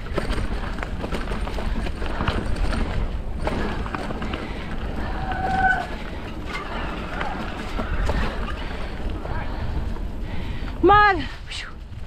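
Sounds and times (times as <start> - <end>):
bike rattling and clicking: 0.0 - 10.8
bike tyres on dirt trail: 0.0 - 12.0.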